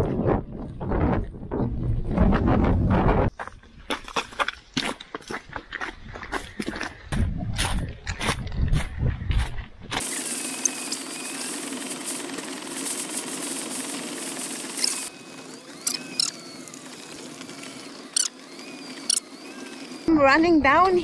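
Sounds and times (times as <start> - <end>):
footsteps on loose scree: 0.0 - 20.1.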